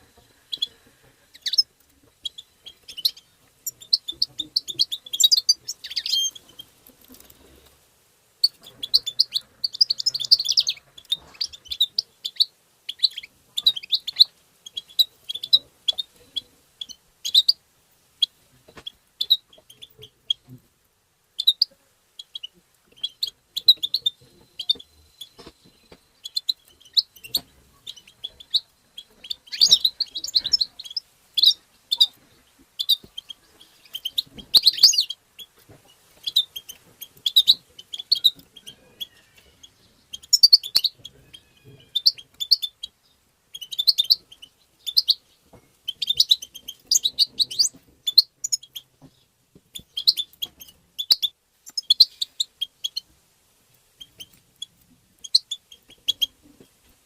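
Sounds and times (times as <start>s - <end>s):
goldfinch twittering song: 1.3s - 6.6s, 8.4s - 17.6s, 21.4s - 32.1s, 32.8s - 35.6s, 36.3s - 45.3s, 45.9s - 53.0s, 54.0s - 56.3s.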